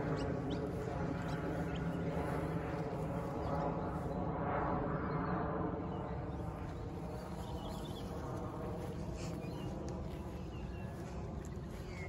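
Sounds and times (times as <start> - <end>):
birds chirping: 0.0 - 4.2, 5.8 - 12.0
steady low drone: 0.0 - 12.0.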